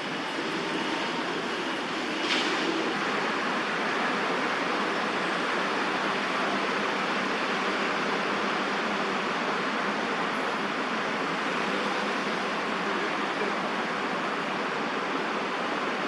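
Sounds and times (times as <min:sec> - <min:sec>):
distant city traffic: 0:00.0 - 0:16.0.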